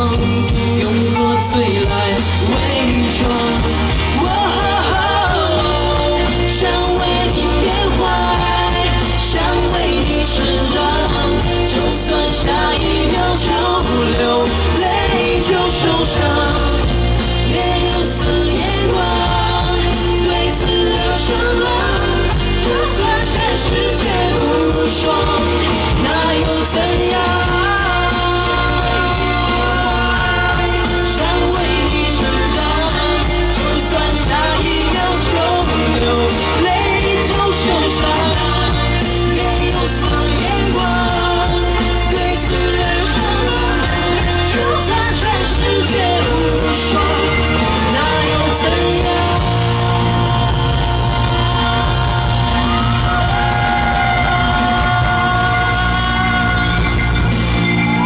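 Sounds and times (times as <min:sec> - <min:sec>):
woman singing into microphone: 0:00.0 - 0:57.2
amplified pop-rock band: 0:00.0 - 0:58.0
heavy steady bass: 0:00.0 - 0:58.0.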